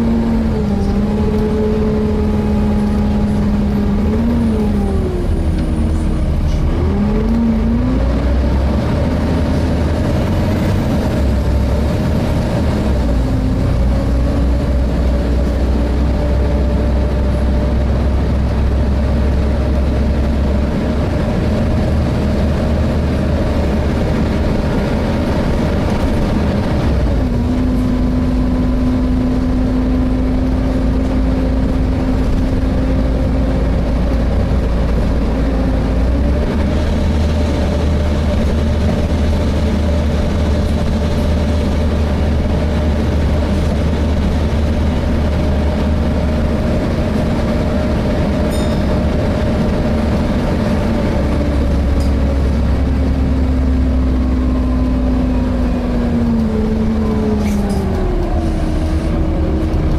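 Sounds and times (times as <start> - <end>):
bus engine droning whine: 0.0 - 59.9.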